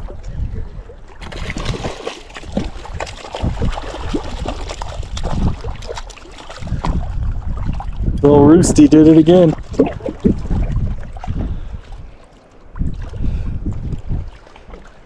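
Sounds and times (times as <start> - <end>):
fish splashing in water: 0.0 - 8.2, 9.2 - 15.0
wind buffeting microphone: 0.0 - 15.0.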